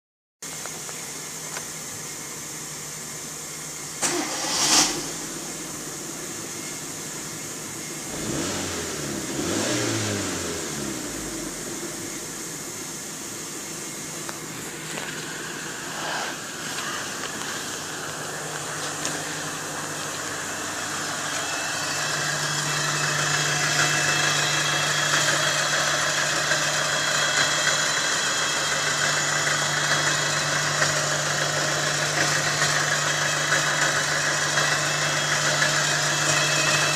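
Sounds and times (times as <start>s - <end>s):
car engine running: 0.5s - 36.9s.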